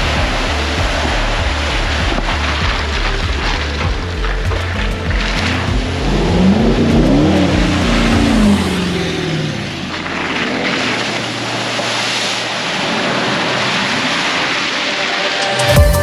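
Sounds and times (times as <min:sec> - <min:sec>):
four-wheel drive engine revving: 0:00.0 - 0:14.0.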